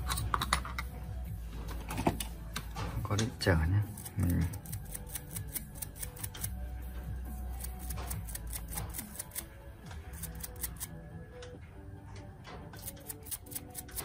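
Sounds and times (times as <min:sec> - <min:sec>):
quiet background music: 0:00.0 - 0:14.0.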